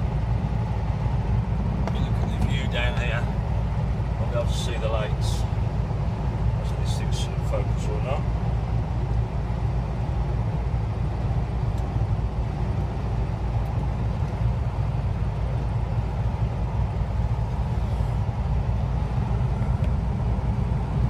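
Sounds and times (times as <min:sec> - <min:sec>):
truck engine and road drone: 0:00.0 - 0:21.0.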